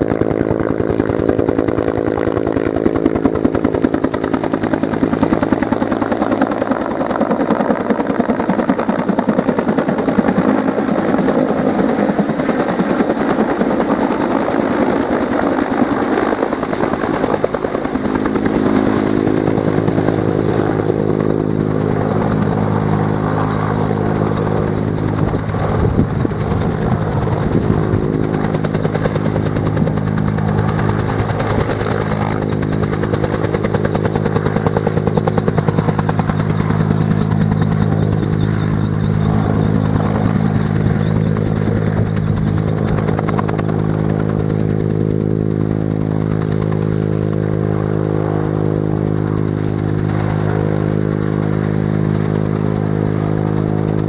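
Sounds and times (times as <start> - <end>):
helicopter rotor beating: 0.0 - 54.0
turbine engine running: 2.4 - 54.0.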